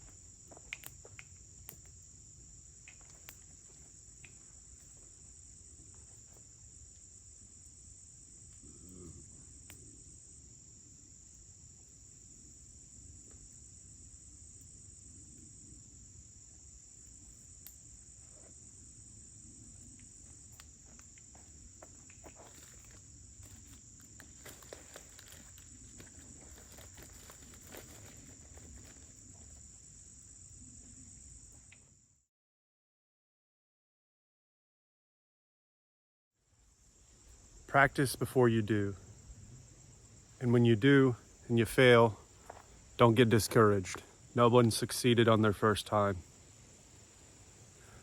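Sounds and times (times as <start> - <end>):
high-pitched insect chorus: 0.0 - 32.2, 36.5 - 48.0.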